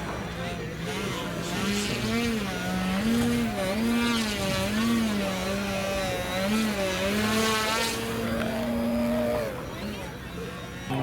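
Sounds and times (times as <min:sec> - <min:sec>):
model aircraft engine: 0:00.0 - 0:11.0.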